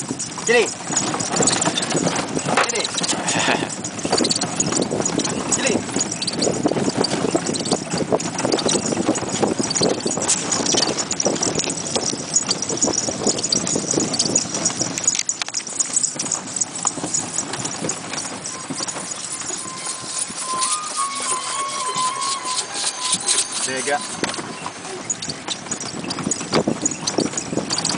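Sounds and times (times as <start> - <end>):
hooves clip-clopping on dirt: 0.0 - 27.9.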